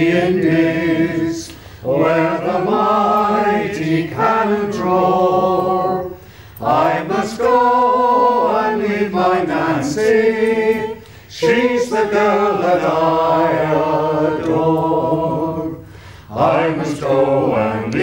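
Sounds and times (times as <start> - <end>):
choir singing unaccompanied: 0.0 - 18.0.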